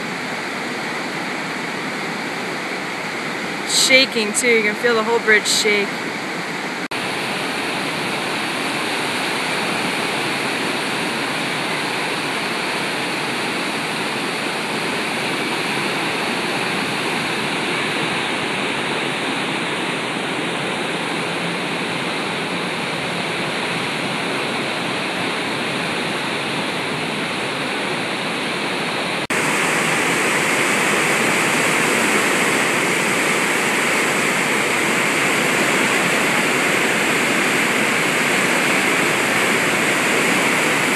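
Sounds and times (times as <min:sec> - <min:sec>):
foaming whitewater rushing: 0:00.0 - 0:40.9
river water rushing: 0:00.0 - 0:40.9.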